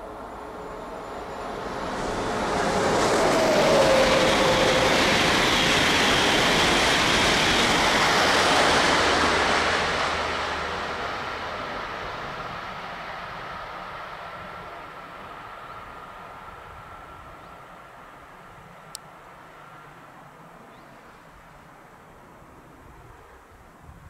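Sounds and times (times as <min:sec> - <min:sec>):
train rushing past: 0:00.0 - 0:20.4.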